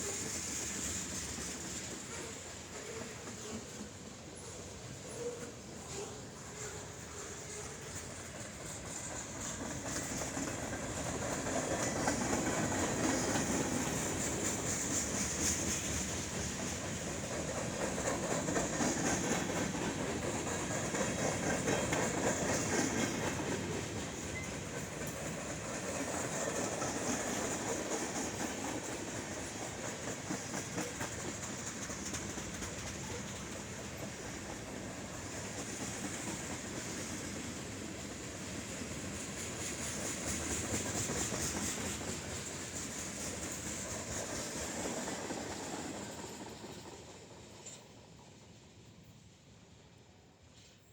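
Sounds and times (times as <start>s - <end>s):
train wheels clicking over rail joints: 0.0s - 49.0s
freight train rolling past: 0.0s - 50.9s.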